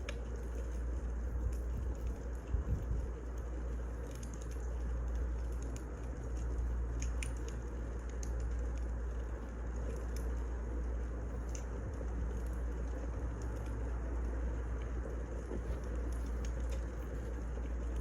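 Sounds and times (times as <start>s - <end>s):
low rumble and hiss: 0.0s - 18.0s
wood fire crackling: 0.0s - 18.0s.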